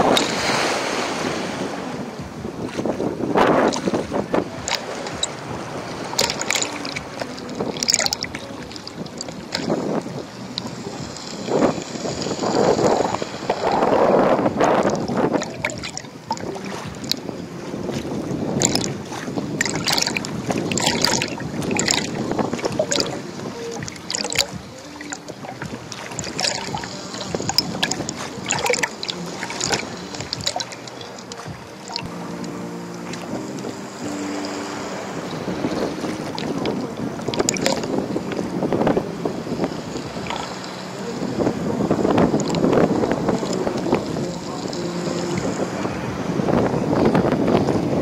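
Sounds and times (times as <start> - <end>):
sea water washing: 0.0 - 48.0
wind buffeting the microphone: 0.0 - 48.0.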